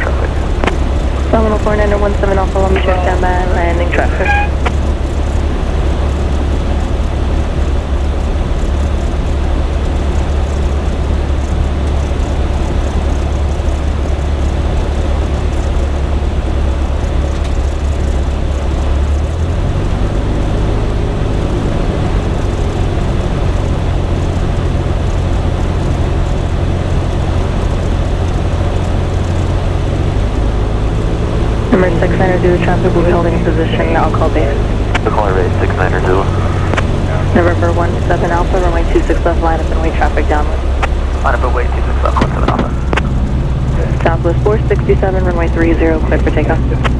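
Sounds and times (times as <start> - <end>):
propeller plane engine droning: 0.0 - 46.9.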